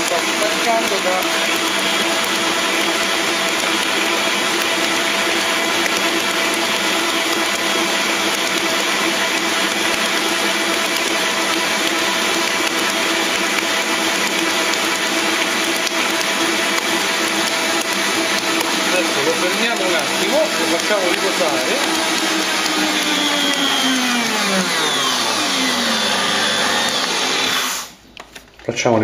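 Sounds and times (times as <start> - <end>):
stand mixer motor whine: 0.0 - 28.0.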